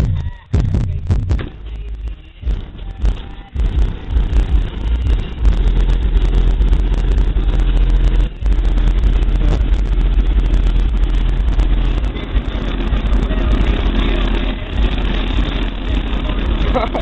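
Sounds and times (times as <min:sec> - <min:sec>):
subwoofers playing deep bass: 0:00.0 - 0:17.0.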